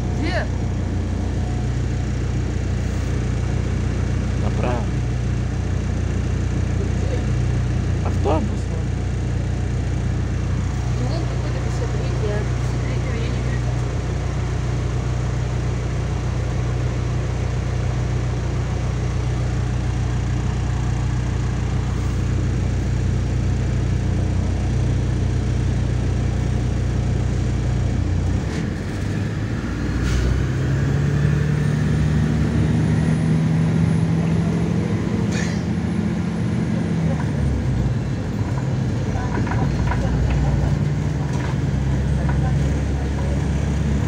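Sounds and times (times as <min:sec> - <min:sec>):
bus engine droning: 0:00.0 - 0:44.0.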